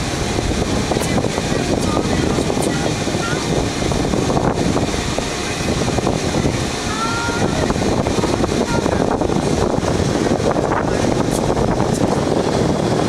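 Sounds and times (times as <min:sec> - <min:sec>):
motorboat engine running: 0:00.0 - 0:13.0
wind buffeting microphone: 0:00.0 - 0:13.0.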